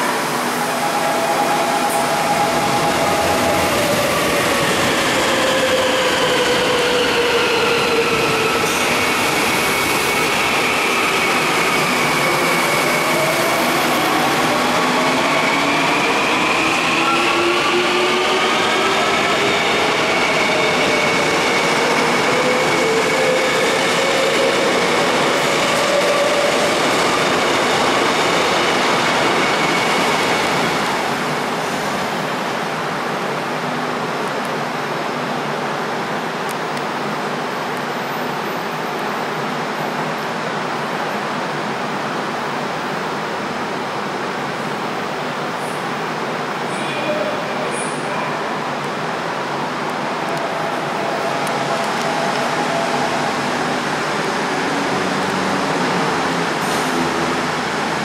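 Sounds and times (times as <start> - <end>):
train wheel and rail noise: 0.0 - 58.0.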